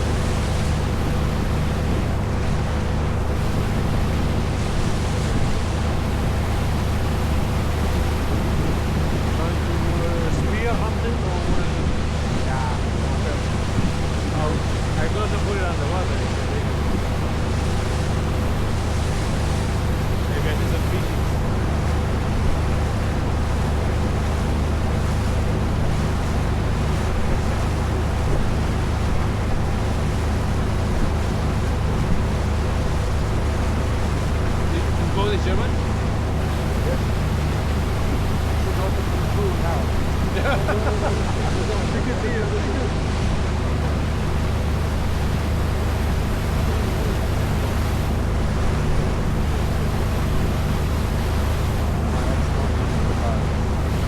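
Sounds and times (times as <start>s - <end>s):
boat engine droning: 0.0s - 54.0s
water rushing along hull: 0.0s - 54.0s
wind buffeting microphone: 0.0s - 54.0s.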